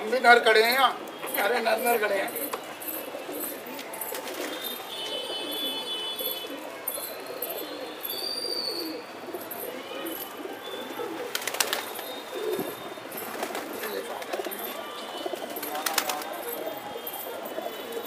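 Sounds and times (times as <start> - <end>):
pigeons cooing: 0.9 - 18.0.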